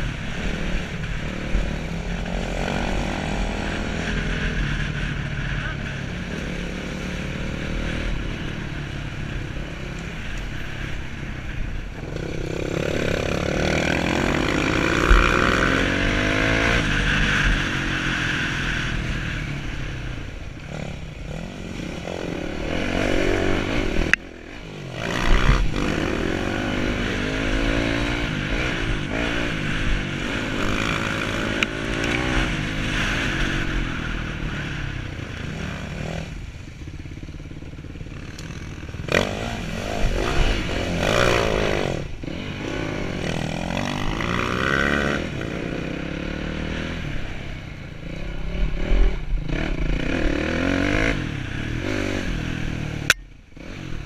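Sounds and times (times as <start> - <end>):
dirt bike engine revving: 0.0 - 11.1, 11.8 - 54.0.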